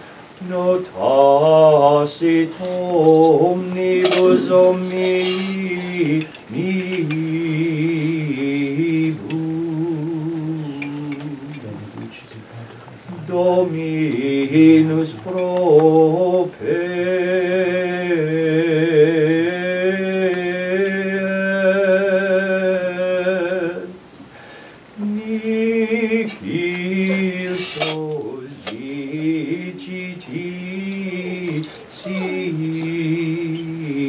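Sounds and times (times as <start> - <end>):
liturgical singing: 0.0 - 24.0, 24.9 - 34.0.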